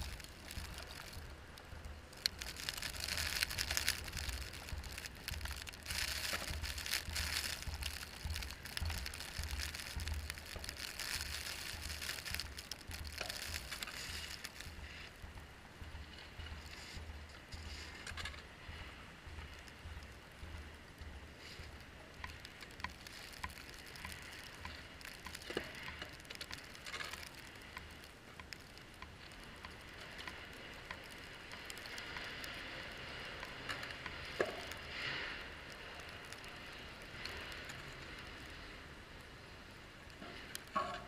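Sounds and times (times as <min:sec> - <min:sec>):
snow crunching and clicks: 0:00.0 - 0:38.7
steady hiss: 0:00.0 - 0:40.9.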